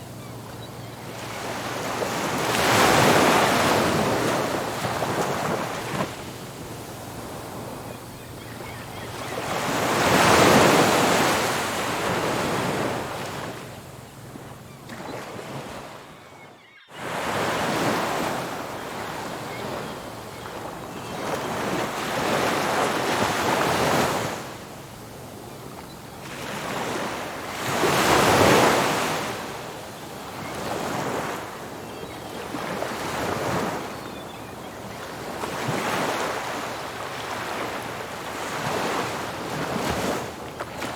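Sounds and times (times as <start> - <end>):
ocean waves breaking on beach: 0.0 - 16.0, 16.9 - 40.9.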